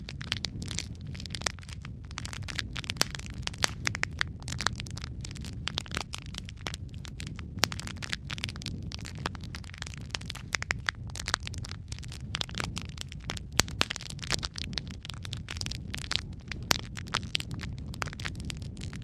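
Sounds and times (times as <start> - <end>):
logs crackling in fireplace: 0.0 - 19.0.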